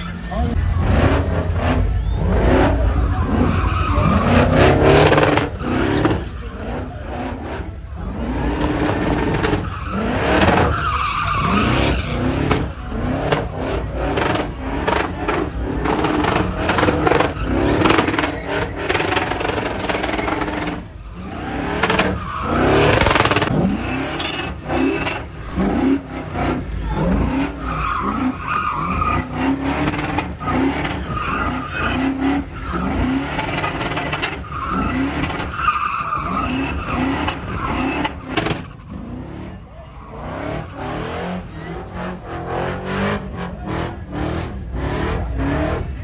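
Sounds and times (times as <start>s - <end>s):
tires squealing: 0.0s - 46.0s
truck engines revving: 0.0s - 46.0s.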